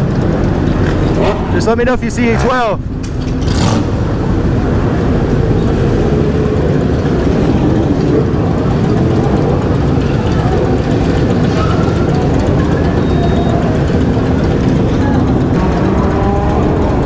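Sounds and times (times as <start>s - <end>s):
engines idling low drone: 0.0s - 17.0s.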